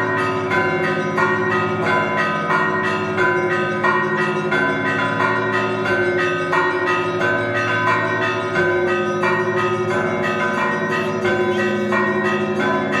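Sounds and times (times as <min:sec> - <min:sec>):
hum of large bells: 0:00.0 - 0:13.0
small bells ringing rapidly: 0:00.0 - 0:13.0.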